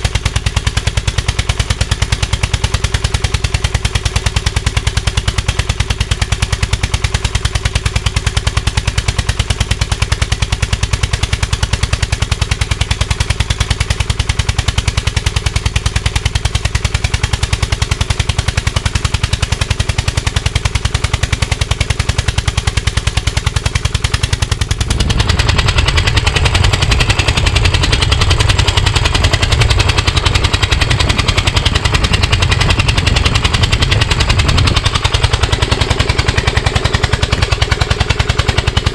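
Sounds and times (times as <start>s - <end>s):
lawn tractor engine running: 0.0s - 38.9s
sharp exhaust popping: 0.0s - 38.9s.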